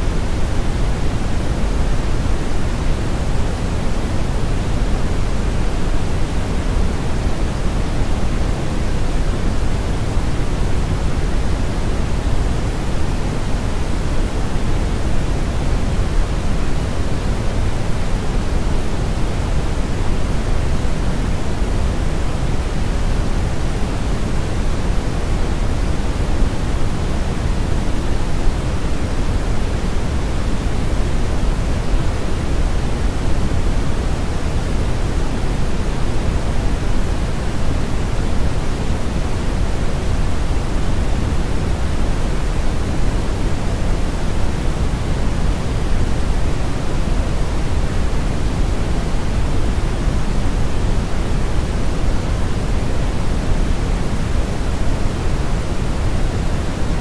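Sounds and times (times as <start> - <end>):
brown noise rushing hiss: 0.0 - 57.0.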